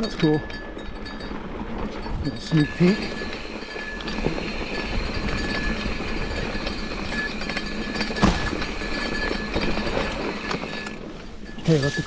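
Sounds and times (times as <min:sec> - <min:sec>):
bike rolling and rattling: 0:00.0 - 0:12.0.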